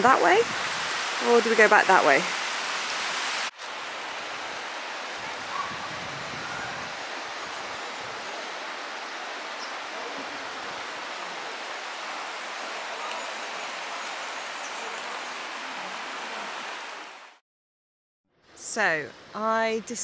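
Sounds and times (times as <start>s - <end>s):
river water rushing over shallows: 0.0s - 17.4s.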